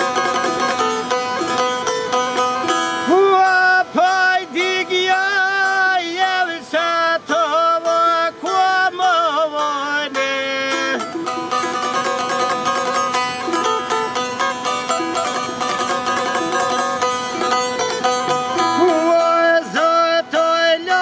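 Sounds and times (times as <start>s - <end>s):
person singing long wavering notes: 0.0s - 21.0s
plucked string instrument: 0.0s - 21.0s.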